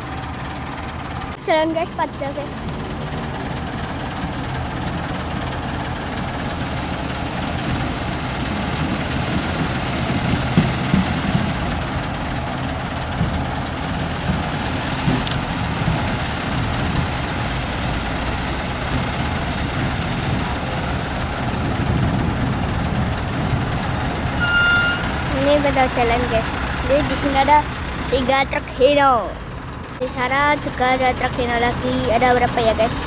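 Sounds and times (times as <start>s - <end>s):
truck diesel engines rumbling: 0.0s - 33.0s.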